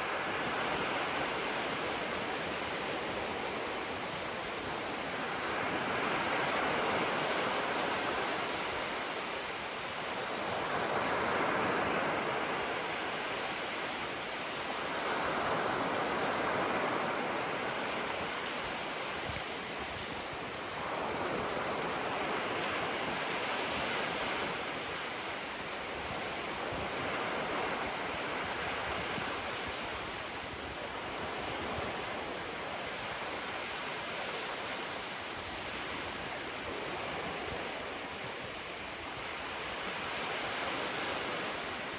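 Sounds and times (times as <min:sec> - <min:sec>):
small waves breaking on shore: 0:00.0 - 0:41.9.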